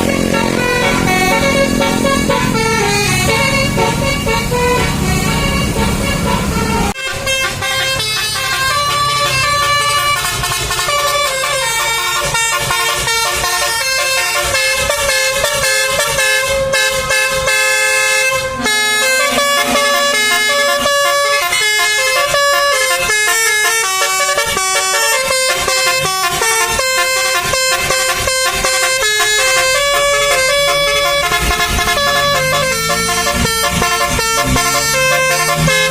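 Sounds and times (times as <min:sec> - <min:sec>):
multi-tone bus horn tune: 0:00.0 - 0:35.9.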